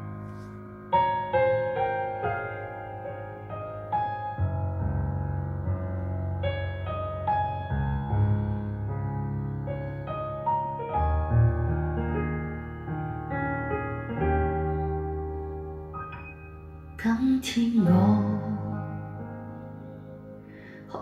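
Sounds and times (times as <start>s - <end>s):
deep bass piano notes: 0.0s - 21.0s.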